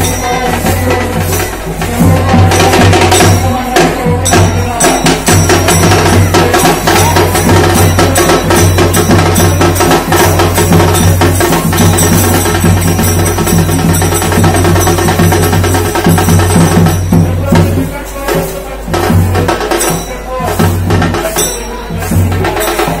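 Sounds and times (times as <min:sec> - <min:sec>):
dhol drum: 0:00.0 - 0:23.0
hand drum beating: 0:00.0 - 0:23.0.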